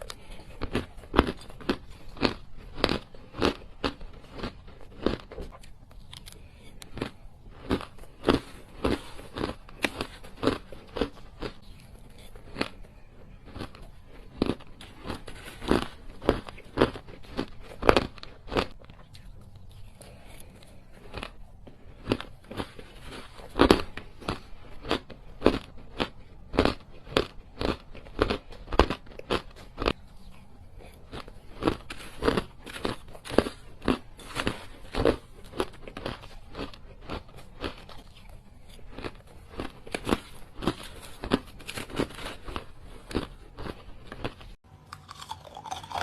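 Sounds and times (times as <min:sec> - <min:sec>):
ice crunching between teeth: 0:00.0 - 0:46.0.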